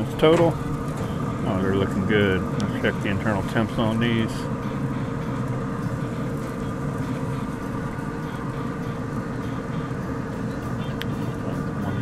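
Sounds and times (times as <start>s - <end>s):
faint steady whine: 0.0s - 12.0s
grill fan hum: 0.0s - 12.0s.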